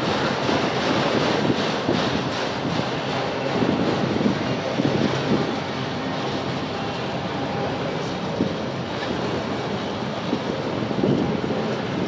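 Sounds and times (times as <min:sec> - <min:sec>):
steel wheels rumbling on rails: 0:00.0 - 0:12.0.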